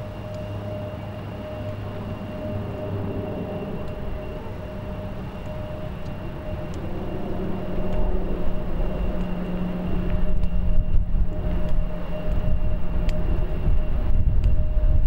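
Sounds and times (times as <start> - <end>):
jet engines whining hum: 0.0 - 15.0.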